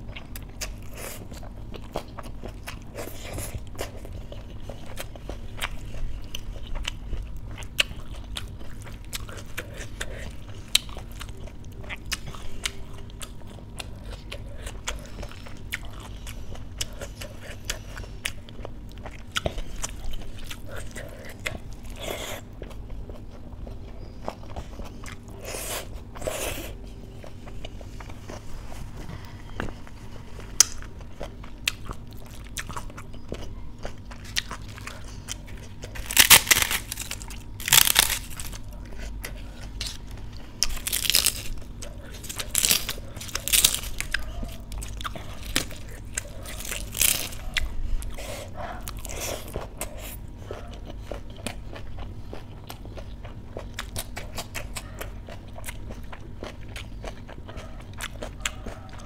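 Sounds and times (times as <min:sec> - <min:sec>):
flatbread crunching: 0:00.0 - 0:59.0.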